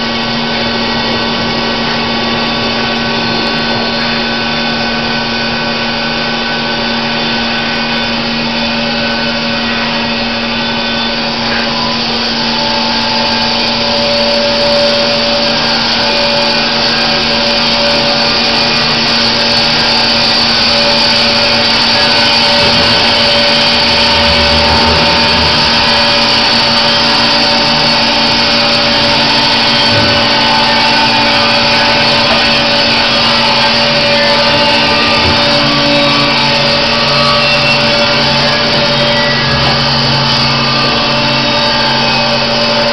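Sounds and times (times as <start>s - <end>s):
band saw cutting wood: 0.0s - 42.9s.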